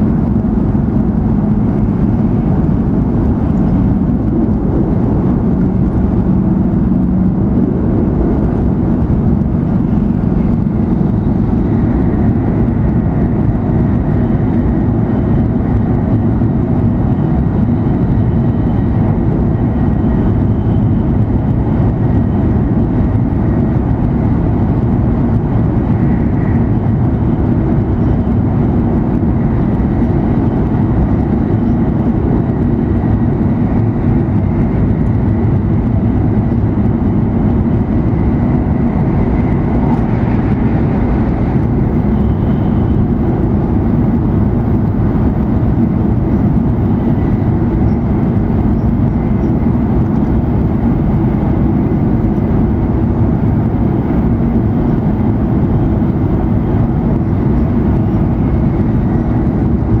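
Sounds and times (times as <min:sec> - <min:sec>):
train interior rumble: 0:00.0 - 1:00.0.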